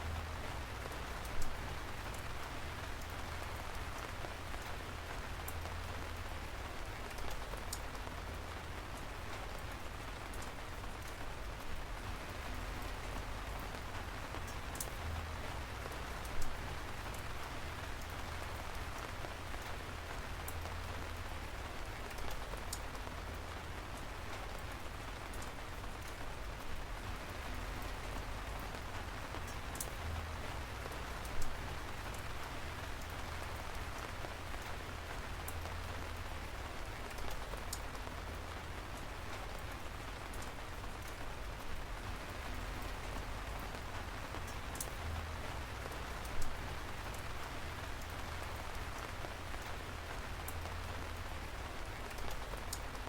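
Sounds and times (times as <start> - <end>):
raindrops ticking close by: 0.0 - 53.0
steady rain hiss: 0.0 - 53.0.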